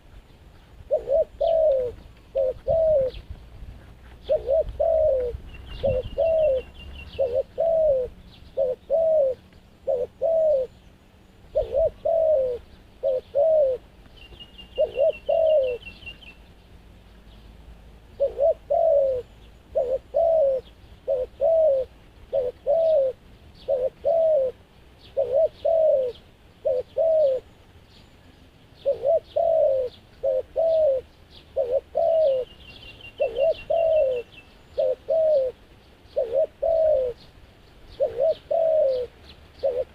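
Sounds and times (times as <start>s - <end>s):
dove cooing: 0.8s - 3.3s, 4.2s - 10.9s, 11.5s - 16.4s, 18.1s - 27.5s, 28.8s - 37.3s, 37.9s - 39.9s.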